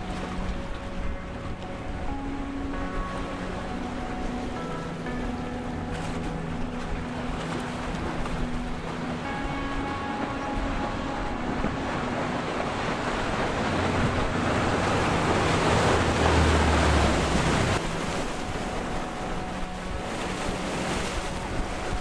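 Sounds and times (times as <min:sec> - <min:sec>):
boat engine drone: 0:00.0 - 0:22.0
bow wave and wake rushing: 0:00.0 - 0:22.0.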